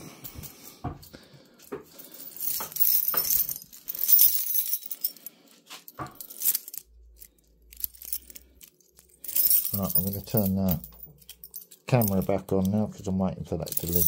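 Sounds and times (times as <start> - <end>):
metallic jingling and rattling: 0.2 - 14.0.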